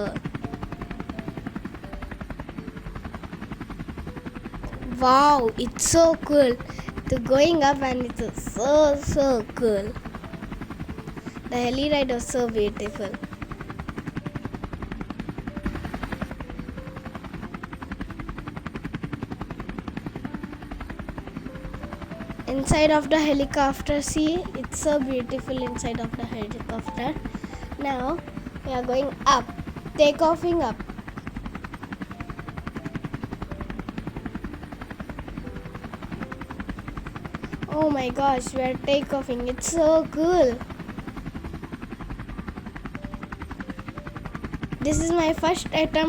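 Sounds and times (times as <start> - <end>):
helicopter engine rumble: 0.0 - 46.0
helicopter rotor chopping: 0.0 - 46.0.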